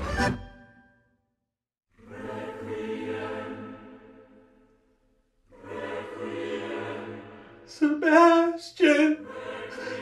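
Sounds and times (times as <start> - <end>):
choir singing chords: 2.0 - 10.0.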